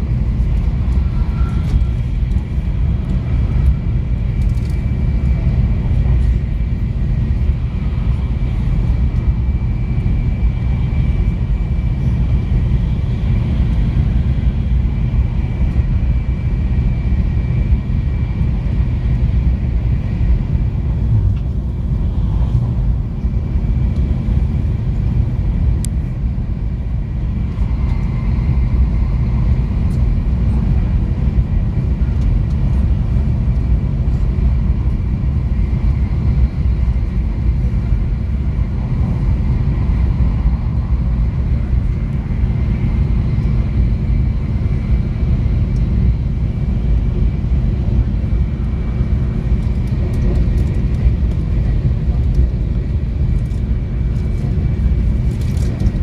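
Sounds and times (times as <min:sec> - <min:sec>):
low rumbling noise: 0:00.0 - 0:56.0.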